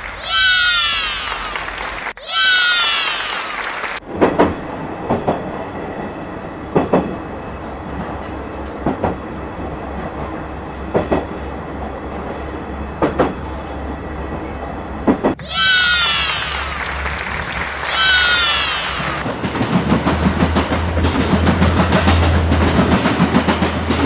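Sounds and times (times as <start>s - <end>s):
passenger train rumbling: 4.0s - 24.0s.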